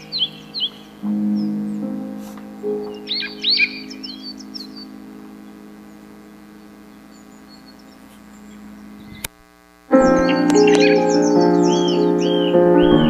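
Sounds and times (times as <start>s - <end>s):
sustained piano chord: 0.0s - 9.2s, 9.9s - 13.0s
songbirds chirping: 0.0s - 9.4s, 10.0s - 13.0s.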